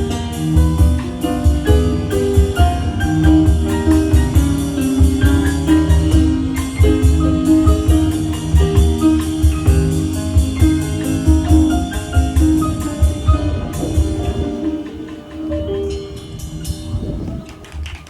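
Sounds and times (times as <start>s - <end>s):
steady drum beat: 0.0s - 17.6s
piano playing pop tune: 0.0s - 18.0s.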